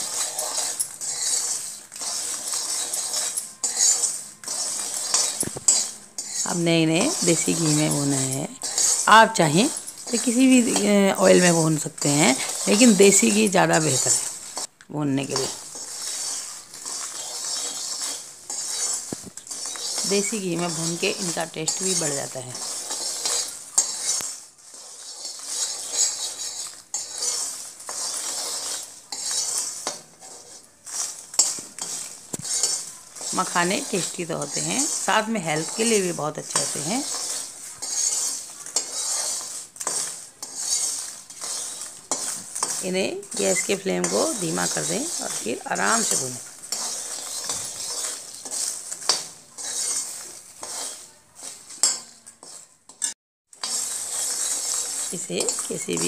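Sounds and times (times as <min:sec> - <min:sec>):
metal spoon scraping a pan: 0:00.0 - 0:56.0.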